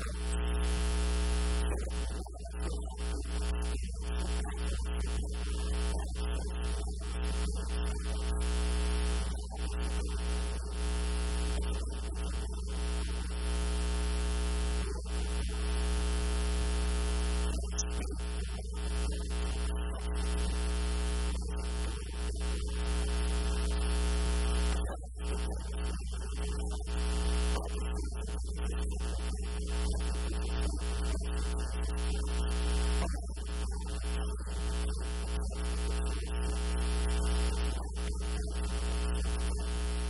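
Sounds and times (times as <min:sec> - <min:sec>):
electrical mains hum: 0:00.0 - 0:40.0.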